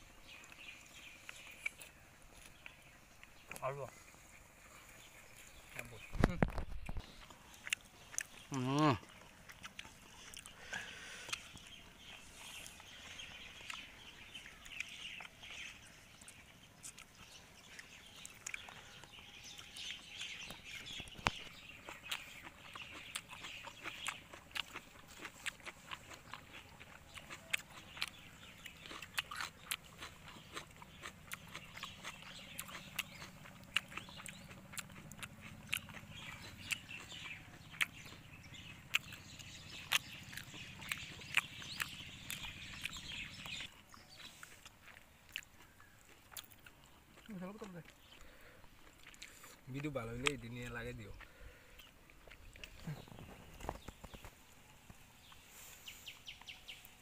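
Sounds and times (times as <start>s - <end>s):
people chewing and lip smacking: 0.0s - 57.0s.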